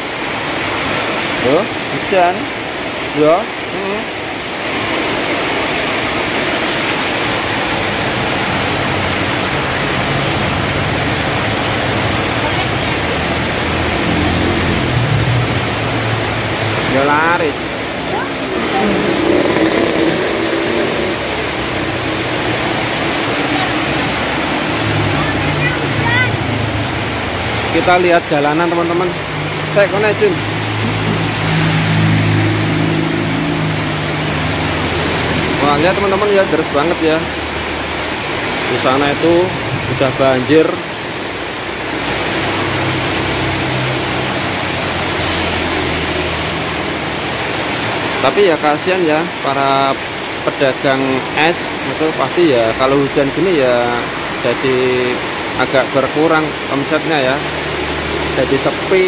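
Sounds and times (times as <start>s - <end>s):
heavy rain on street: 0.0s - 59.0s
motorcycle passing: 3.8s - 48.3s, 52.5s - 59.0s.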